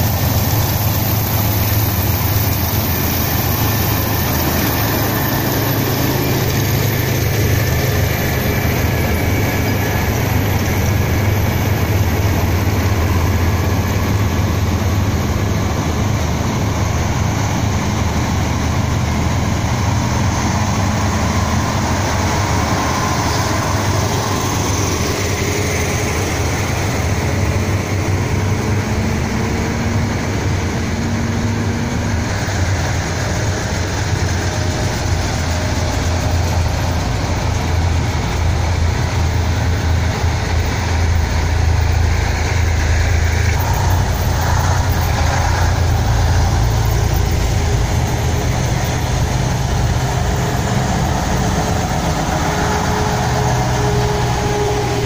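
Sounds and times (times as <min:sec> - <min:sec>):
heavy vehicles diesel engines droning: 0:00.0 - 0:55.0.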